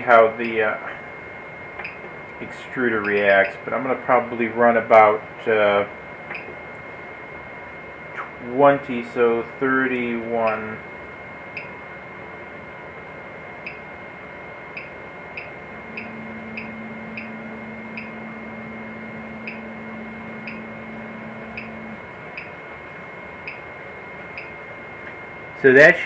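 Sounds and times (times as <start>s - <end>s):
extruder motor hum: 0.0s - 26.0s
printer high whine: 0.0s - 26.0s.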